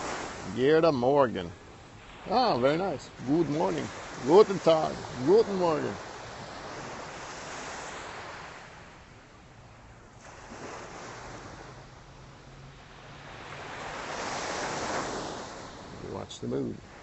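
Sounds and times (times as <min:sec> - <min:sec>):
small waves washing up beach: 0:00.0 - 0:17.0.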